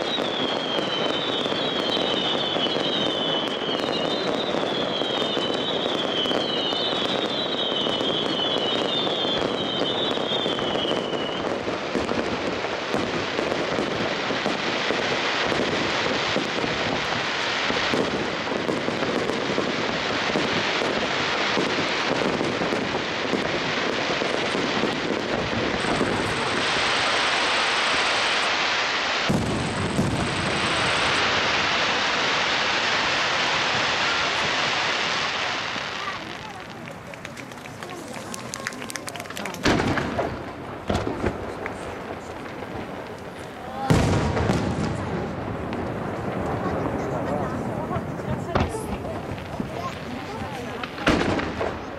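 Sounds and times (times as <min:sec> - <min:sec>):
fireworks reports and crackling: 0:00.0 - 0:51.9
whistling fireworks falling: 0:00.0 - 0:51.9.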